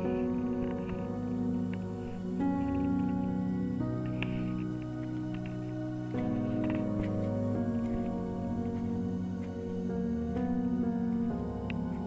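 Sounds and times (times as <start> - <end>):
soft ambient chords: 0.0 - 12.0.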